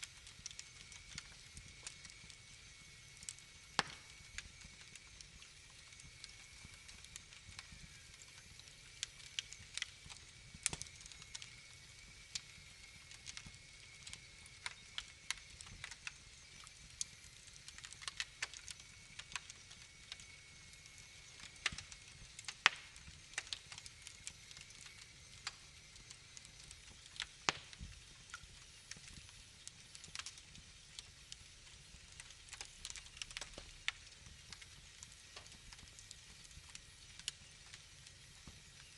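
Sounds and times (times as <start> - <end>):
faint high whine: 0.0 - 38.9
wood fire crackling: 0.0 - 38.9.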